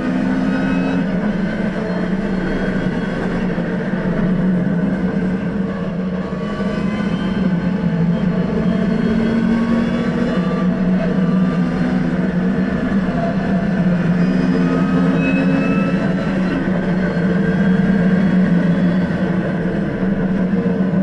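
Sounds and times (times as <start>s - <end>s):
car engine at high revs: 0.0s - 21.0s
road and wind noise: 0.0s - 21.0s.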